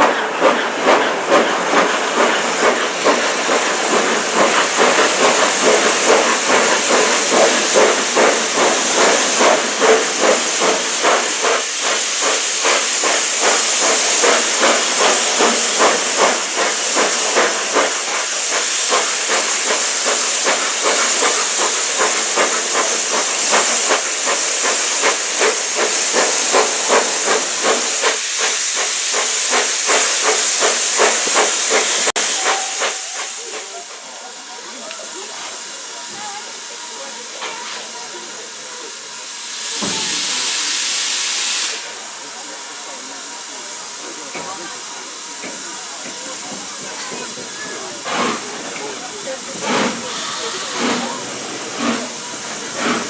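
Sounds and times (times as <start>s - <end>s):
steam hissing: 0.0s - 53.0s
steam locomotive exhaust beats: 0.0s - 53.0s.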